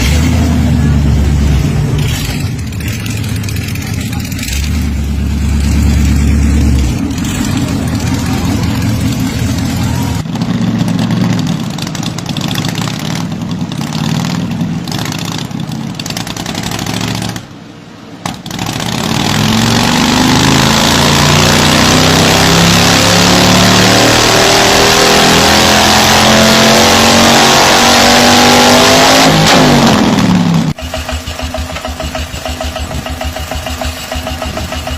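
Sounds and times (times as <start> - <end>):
motorcycle engine revving: 0.0 - 17.6, 18.2 - 34.9.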